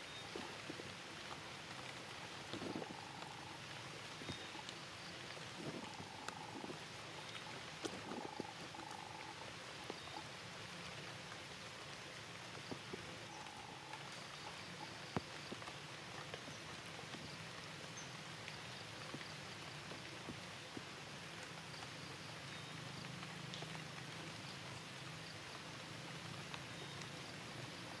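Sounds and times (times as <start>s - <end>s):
water dripping: 0.0s - 27.8s
light rain hiss: 0.0s - 28.0s.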